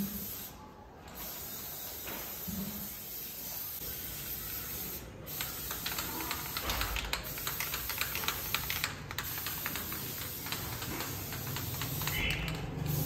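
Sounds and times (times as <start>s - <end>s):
aerosol spray can hissing: 1.2s - 13.0s.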